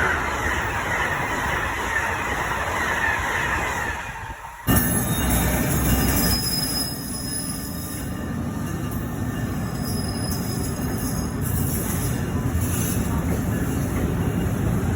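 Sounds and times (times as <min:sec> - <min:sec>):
high squeal of wheels on rail: 0:00.0 - 0:14.9
train wheels rumbling: 0:00.0 - 0:14.9.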